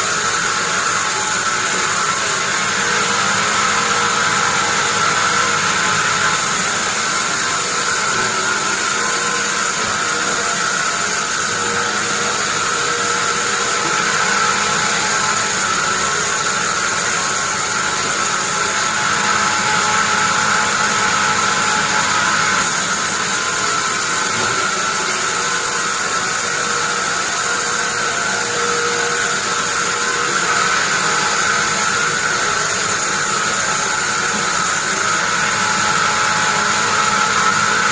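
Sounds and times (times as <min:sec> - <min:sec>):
bandsaw mill whining: 0:00.0 - 0:37.9.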